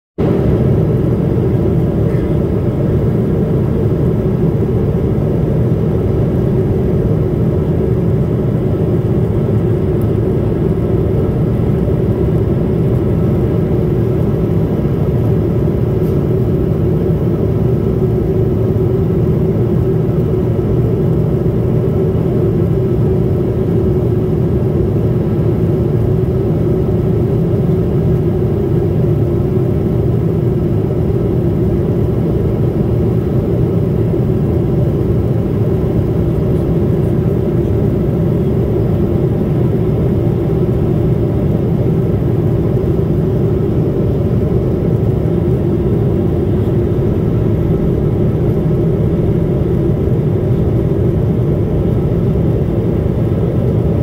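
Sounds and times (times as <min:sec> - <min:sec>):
aircraft cabin drone: 0:00.2 - 0:54.0.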